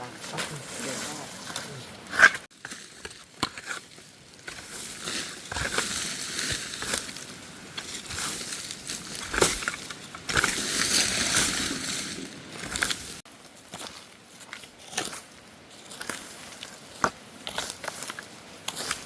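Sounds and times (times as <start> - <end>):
rustling and crunching: 0.0 - 19.0.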